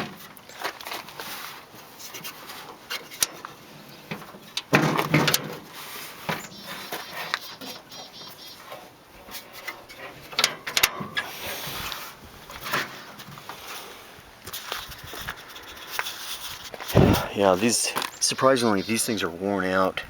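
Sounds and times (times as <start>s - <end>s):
rustling clunk: 0.0s - 17.3s.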